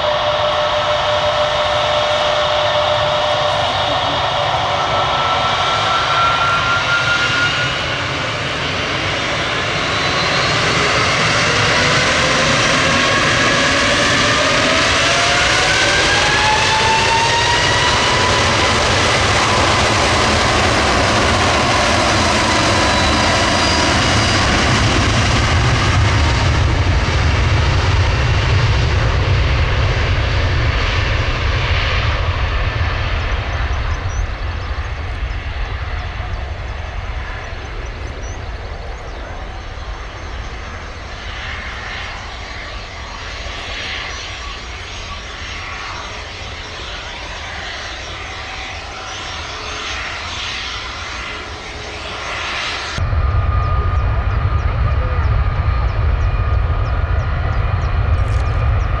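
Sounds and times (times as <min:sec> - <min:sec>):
deep rumble: 0:00.0 - 0:59.0
jet engines whining: 0:00.0 - 0:59.0.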